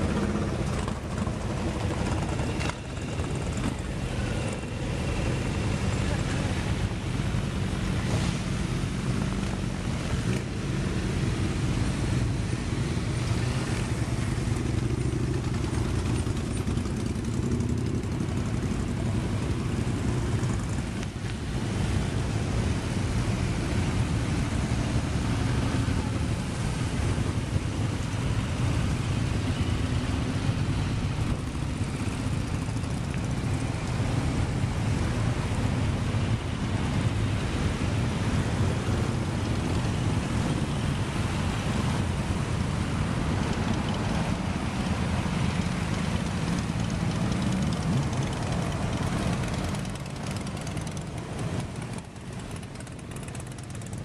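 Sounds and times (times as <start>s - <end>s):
motorcycles riding past: 0.0s - 54.0s.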